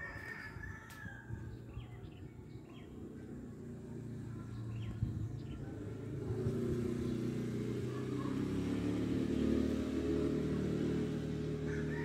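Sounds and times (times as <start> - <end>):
vehicle engine running: 1.8 - 12.0.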